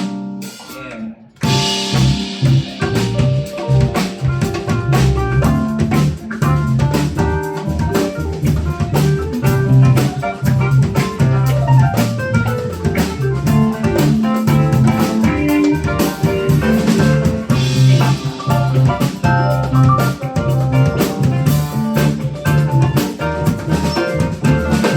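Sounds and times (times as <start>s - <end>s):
drum kit beat: 0.0s - 24.9s
live band playing: 0.0s - 24.9s.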